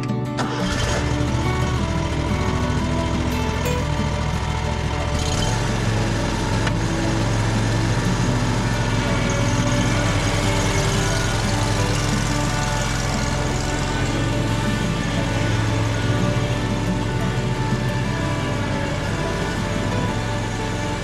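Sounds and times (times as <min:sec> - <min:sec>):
mower engine running: 0:00.0 - 0:21.0.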